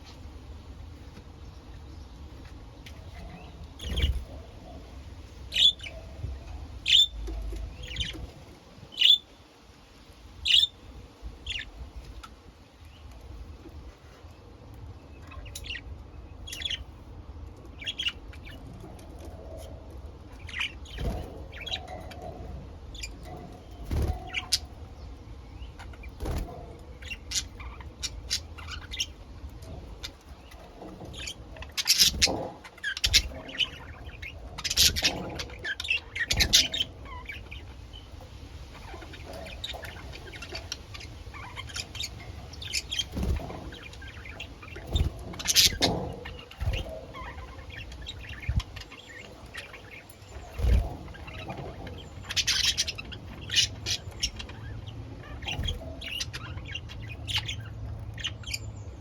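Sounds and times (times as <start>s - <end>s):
low steady background hum: 0.0s - 59.0s
budgerigars chirping and chattering: 2.4s - 9.4s, 10.4s - 14.2s, 15.2s - 17.0s, 17.6s - 59.0s.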